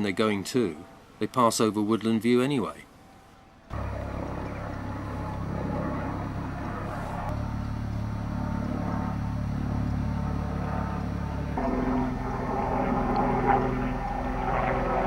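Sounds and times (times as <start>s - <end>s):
helicopter flying over low: 2.6s - 15.0s.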